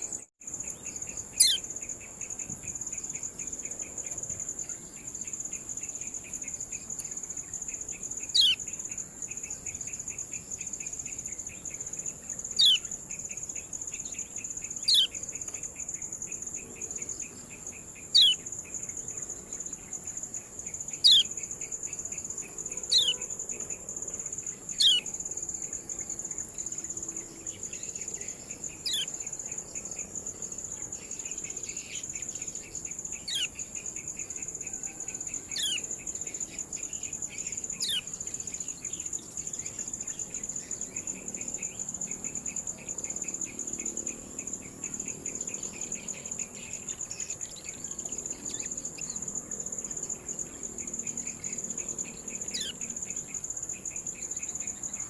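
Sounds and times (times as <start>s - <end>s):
high insect whine: 0.0s - 55.0s.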